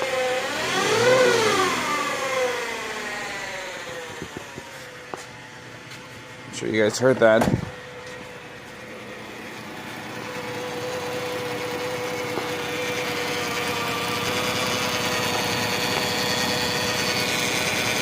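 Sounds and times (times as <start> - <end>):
car engine whining: 0.0 - 18.0.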